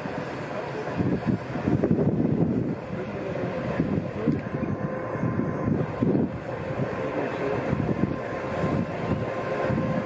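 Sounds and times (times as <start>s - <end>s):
diesel locomotive engine drone: 0.0s - 10.0s.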